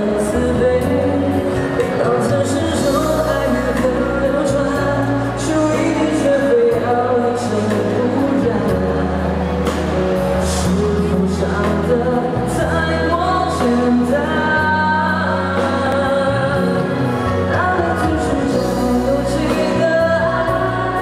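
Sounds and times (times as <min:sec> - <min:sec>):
backing track over loudspeakers: 0:00.0 - 0:21.0
man singing pop ballad: 0:00.0 - 0:21.0.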